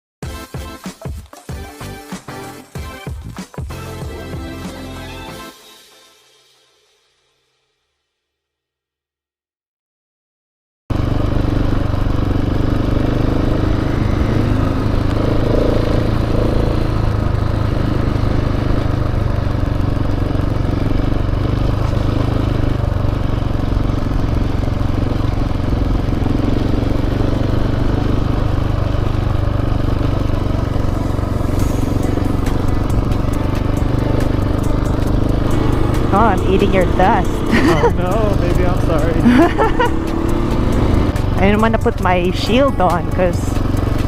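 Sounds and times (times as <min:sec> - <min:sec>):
off-road motorcycle engine running: 0:01.0 - 0:05.3, 0:10.9 - 0:44.0.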